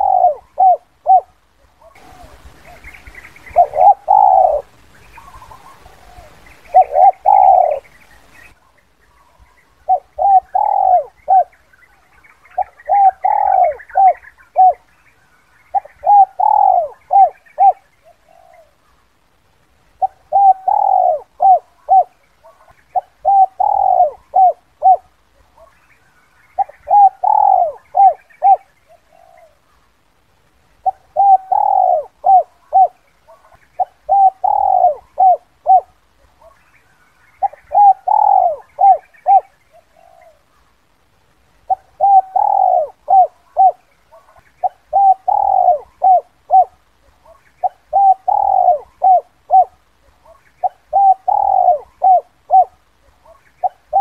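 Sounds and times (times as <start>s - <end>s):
dove cooing: 0.0s - 14.9s, 15.7s - 18.8s, 20.0s - 25.8s, 26.5s - 29.7s, 30.8s - 40.6s, 41.6s - 54.0s.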